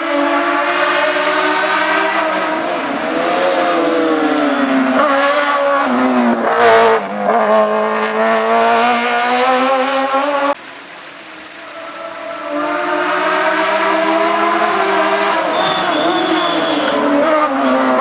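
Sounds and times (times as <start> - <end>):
race car engine: 0.0 - 18.0.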